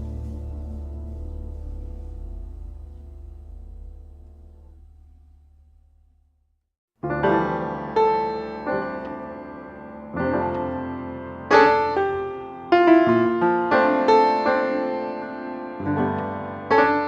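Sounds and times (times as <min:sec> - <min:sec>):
slow piano music: 0:00.0 - 0:05.4, 0:07.0 - 0:17.0.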